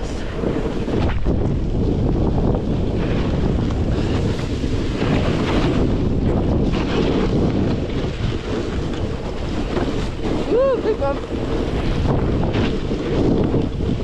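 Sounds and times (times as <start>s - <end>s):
snowboard scraping over snow: 0.0s - 14.0s
wind on microphone: 0.0s - 14.0s.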